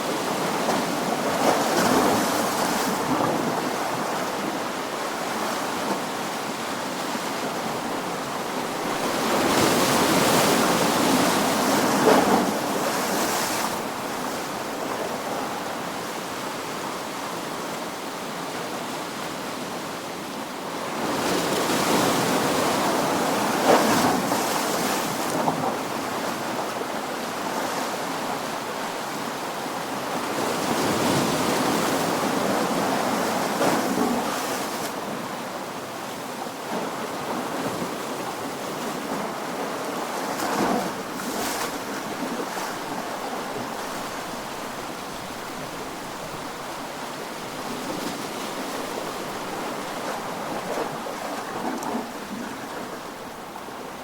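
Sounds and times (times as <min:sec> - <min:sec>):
ocean waves crashing on shore: 0:00.0 - 0:17.4, 0:20.8 - 0:54.0.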